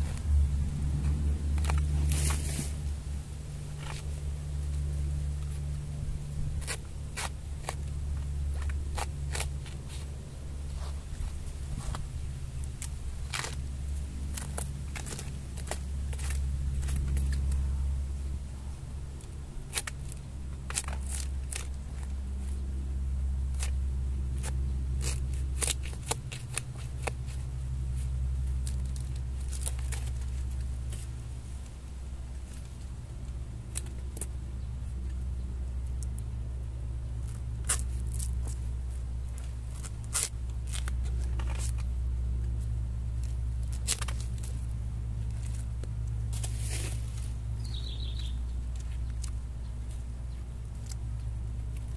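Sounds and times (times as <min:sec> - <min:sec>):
dry leaf litter rustling: 0:00.0 - 0:36.3, 0:37.0 - 0:51.9
steady low hum: 0:00.0 - 0:51.9
knife cutting bamboo shoots: 0:00.1 - 0:17.9, 0:19.2 - 0:31.7, 0:37.2 - 0:42.6, 0:43.2 - 0:51.9.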